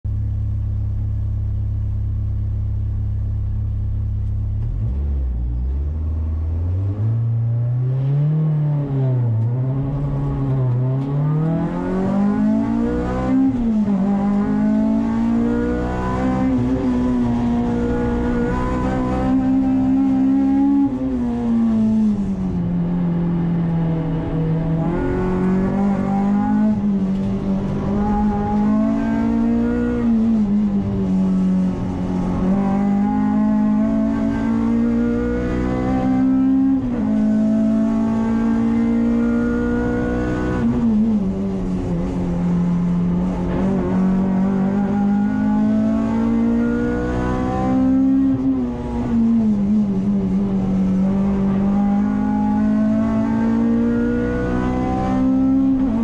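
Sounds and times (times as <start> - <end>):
car engine revving: 3.4 - 56.0.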